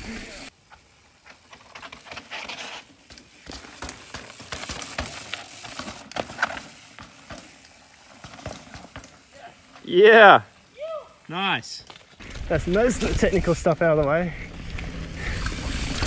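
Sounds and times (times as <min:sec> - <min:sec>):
bike tyres on loose dirt: 0:00.0 - 0:16.0
bike knocking and rattling: 0:00.6 - 0:09.9, 0:11.8 - 0:16.0.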